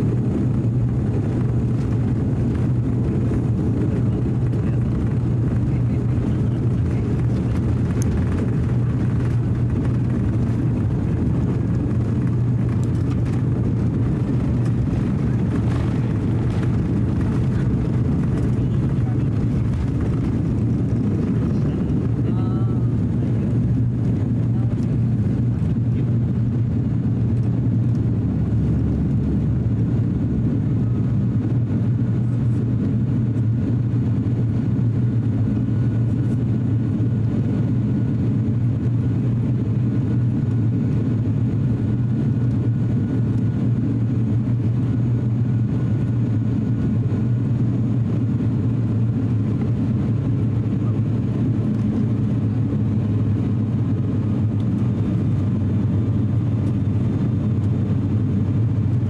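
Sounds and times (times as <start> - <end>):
turboprop cabin drone: 0.0 - 59.0.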